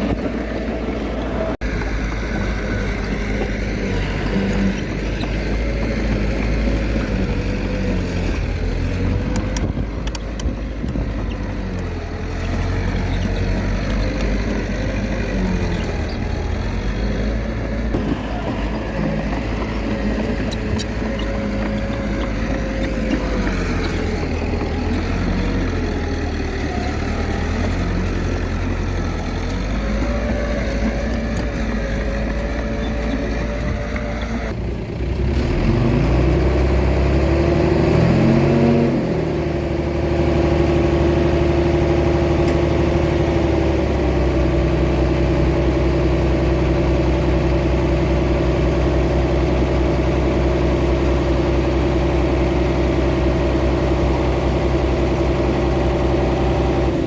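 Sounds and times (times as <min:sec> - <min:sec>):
diesel engine running and revving: 0:00.0 - 0:57.0.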